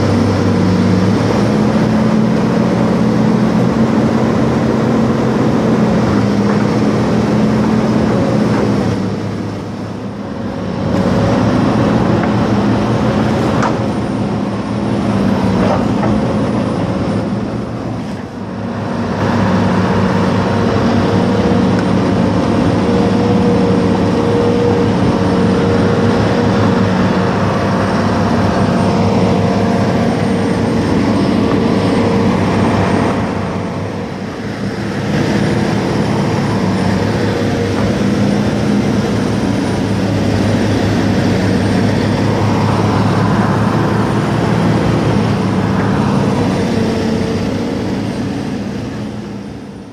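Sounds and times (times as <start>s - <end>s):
diesel excavator engine running: 0.0s - 49.9s.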